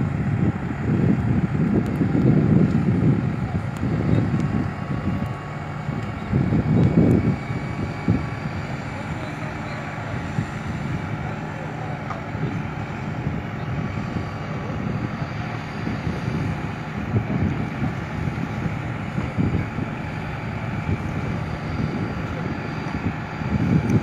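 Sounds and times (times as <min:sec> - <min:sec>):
tractor engine running: 0:00.0 - 0:24.0
wind on microphone: 0:00.0 - 0:24.0.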